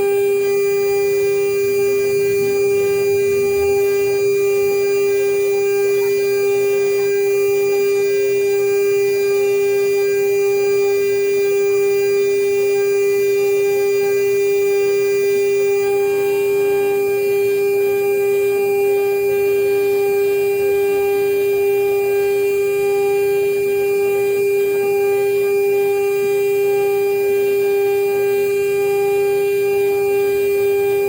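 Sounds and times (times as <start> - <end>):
router spindle whining: 0.0 - 31.0.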